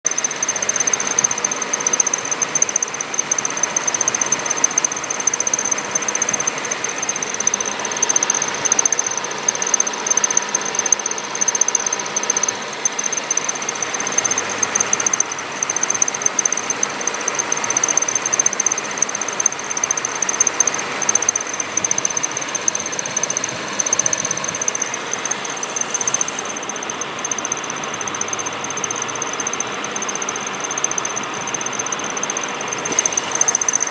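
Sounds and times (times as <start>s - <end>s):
belt tensioner whistling: 0.1s - 33.9s
engine running: 0.1s - 33.9s.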